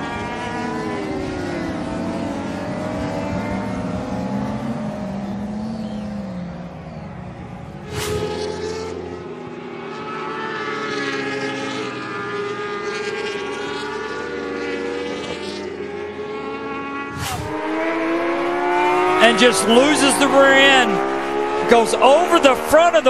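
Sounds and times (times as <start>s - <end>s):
motorbike engines revving past: 0.0s - 23.0s.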